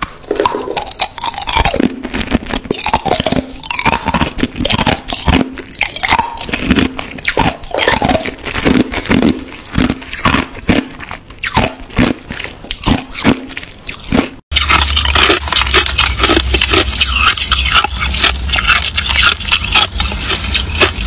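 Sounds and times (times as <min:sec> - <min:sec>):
ice cubes crunched between teeth: 0:00.0 - 0:21.0
low steady hum: 0:00.0 - 0:21.0.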